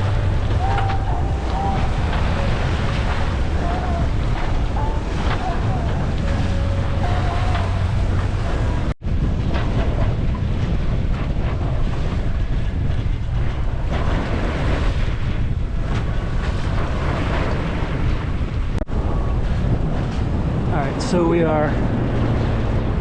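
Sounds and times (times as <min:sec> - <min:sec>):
strong wind buffeting microphone: 0:00.0 - 0:23.0
water rushing past hull: 0:00.0 - 0:23.0.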